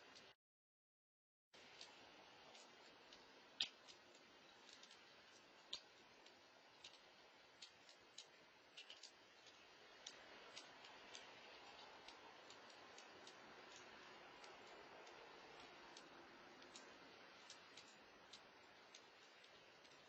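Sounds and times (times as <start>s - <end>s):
low steady hiss: 0.0s - 0.4s, 1.6s - 20.0s
faint small clicks: 1.7s - 20.0s.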